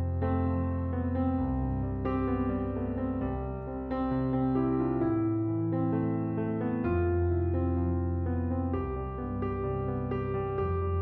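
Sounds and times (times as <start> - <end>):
slow classical piano music: 0.0 - 11.0.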